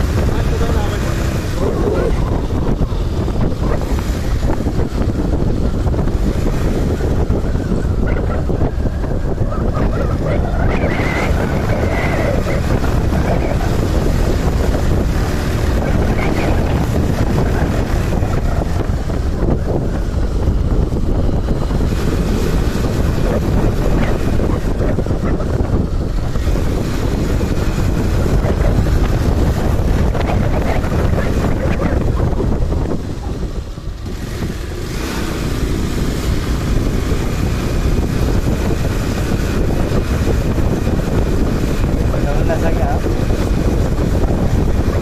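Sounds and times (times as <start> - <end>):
motorbike engine: 0.0 - 45.0
wind buffeting microphone: 0.0 - 45.0.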